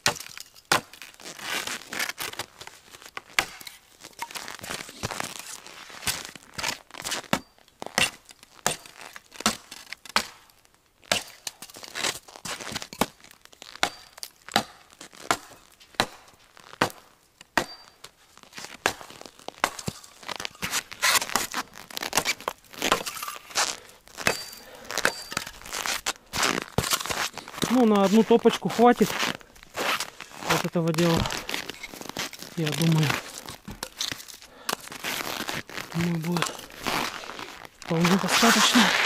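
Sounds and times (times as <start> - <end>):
dry branches cracking and snapping: 0.0 - 39.0
twigs crinkling: 0.0 - 39.0.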